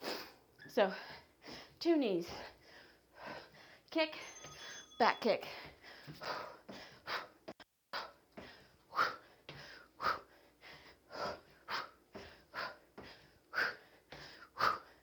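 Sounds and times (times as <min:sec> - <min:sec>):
person's sharp forceful breaths: 0:00.0 - 0:15.0.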